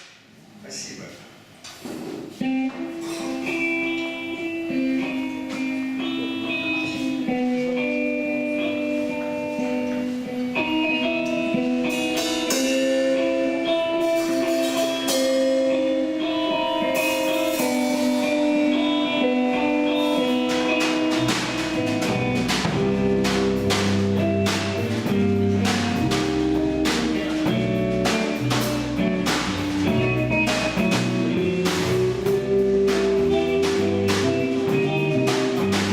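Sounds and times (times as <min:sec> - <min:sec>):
drum kit with cymbals: 0:01.7 - 0:35.9
bass guitar: 0:02.3 - 0:35.9
picked guitar melody: 0:02.3 - 0:35.9.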